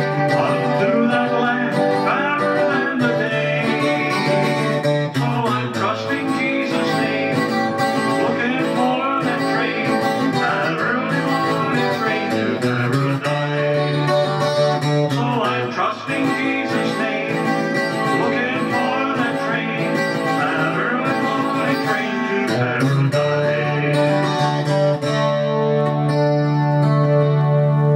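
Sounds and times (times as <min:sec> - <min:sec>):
acoustic guitar chords: 0:00.0 - 0:27.9.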